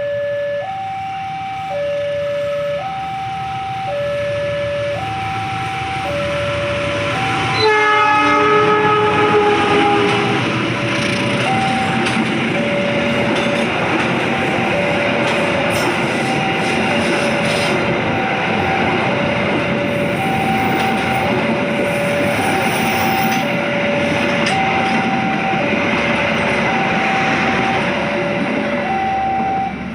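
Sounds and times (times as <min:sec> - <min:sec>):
level crossing alarm two-tone: 0:00.0 - 0:29.9
train wheels rumbling: 0:03.1 - 0:29.9.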